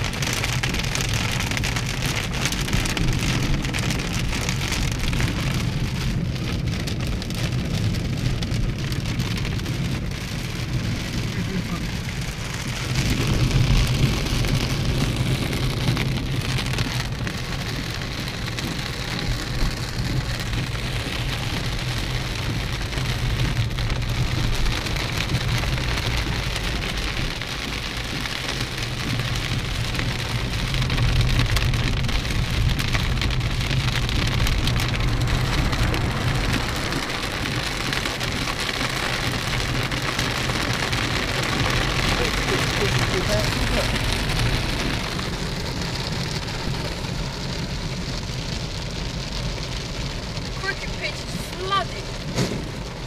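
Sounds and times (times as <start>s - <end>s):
car driving on wet road: 0.0s - 53.0s
heavy rain on car roof: 0.0s - 53.0s.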